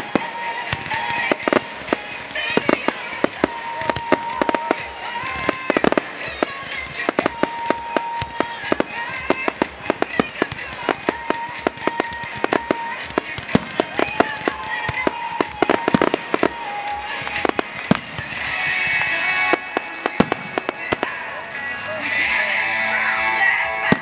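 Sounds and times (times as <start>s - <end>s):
fireworks cracking and popping: 0.0s - 24.0s
music: 0.0s - 24.0s.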